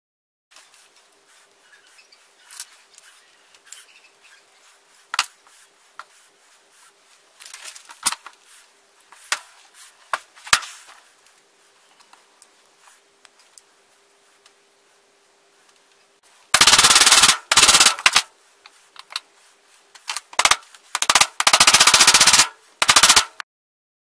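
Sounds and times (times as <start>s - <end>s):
faint steady hum: 0.6s - 23.4s.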